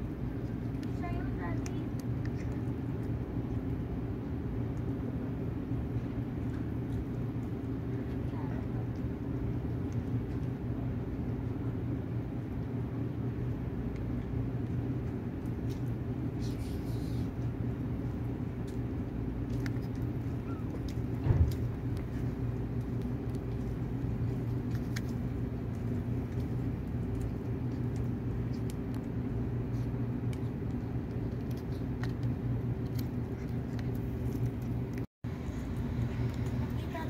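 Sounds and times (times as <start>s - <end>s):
kitten chewing: 0.0s - 37.0s
low mechanical hum: 0.0s - 37.0s.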